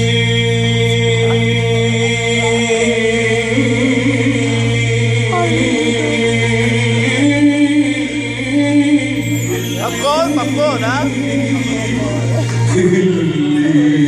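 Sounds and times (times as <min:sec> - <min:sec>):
person singing long notes: 0:00.0 - 0:14.0
sustained musical drone: 0:00.0 - 0:14.0.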